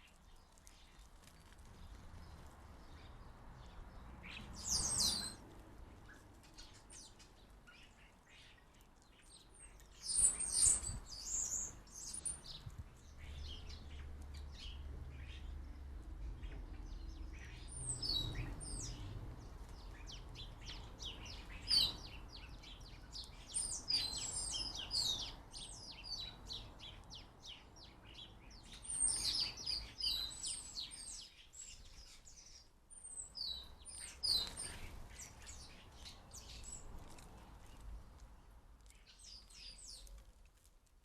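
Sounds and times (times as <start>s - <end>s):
small birds chirping and twittering: 0.0s - 41.0s.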